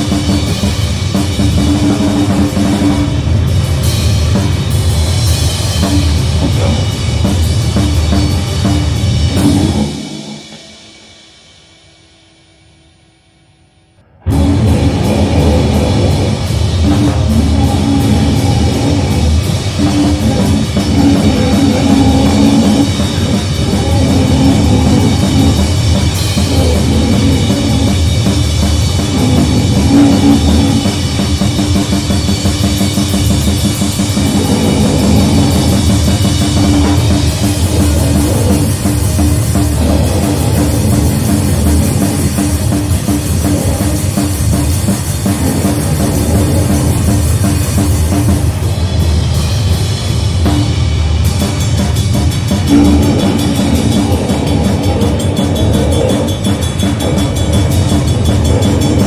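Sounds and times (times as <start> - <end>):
distorted heavy music: 0.0 - 11.0, 14.1 - 59.0.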